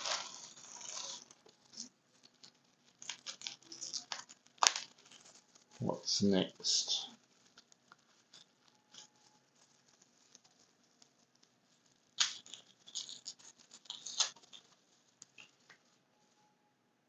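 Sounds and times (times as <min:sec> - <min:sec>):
watch handling rustles and clicks: 0:00.0 - 0:05.9, 0:07.3 - 0:15.9.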